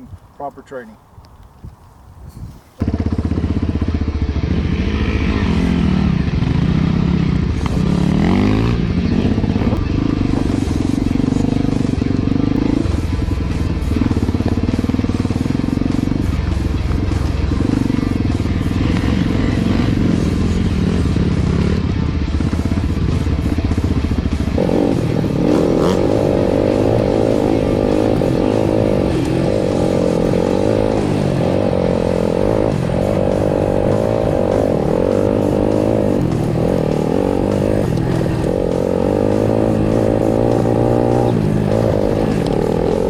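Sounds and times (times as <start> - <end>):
dirt bike engine revving: 2.8 - 43.0
music: 3.0 - 43.0.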